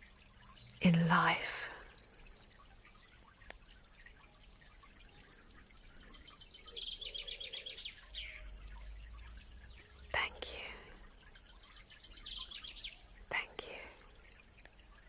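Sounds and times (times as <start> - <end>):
birdsong chirps: 0.0 - 15.0.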